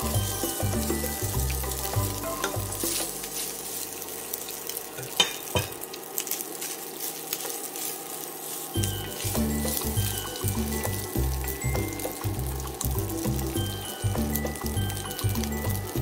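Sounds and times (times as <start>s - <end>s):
rice sizzling: 0.0s - 16.0s.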